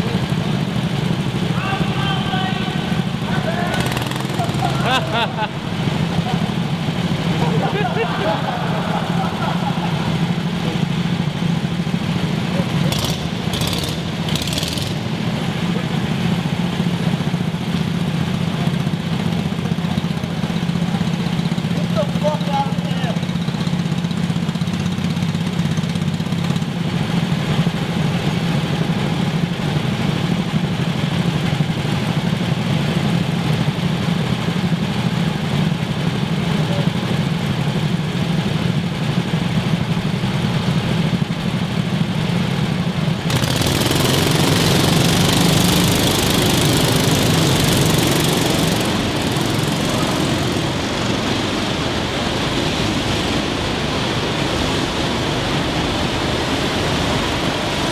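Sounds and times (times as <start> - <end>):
loud rushing noise: 0.0 - 19.6, 26.7 - 57.9
go-kart engines idling: 0.0 - 57.9.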